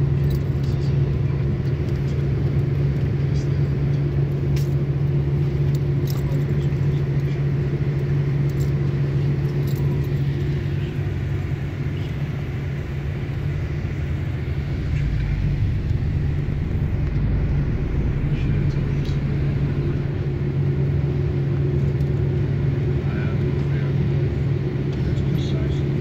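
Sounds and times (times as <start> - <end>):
bus engine drone: 0.0 - 26.0
road and tyre noise: 0.0 - 26.0.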